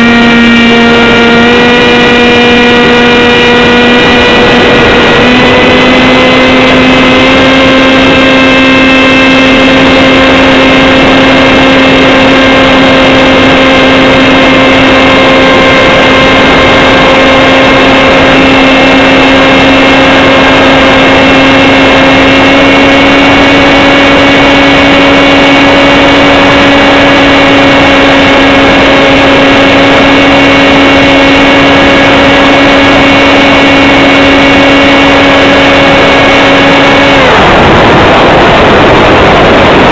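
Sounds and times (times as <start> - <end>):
electric motor and propeller hum: 0.0 - 39.9.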